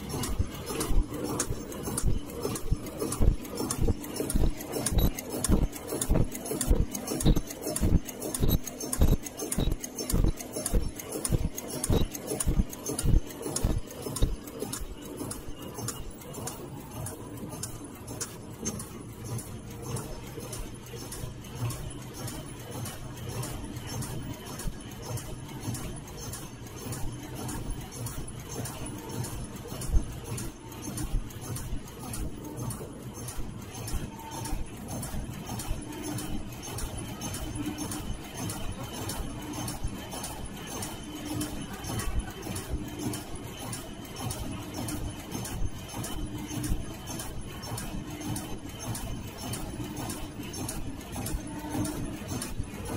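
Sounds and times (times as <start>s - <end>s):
machine clicking and ticking: 0.0s - 52.9s
rhythmic mechanical clatter: 0.0s - 52.9s.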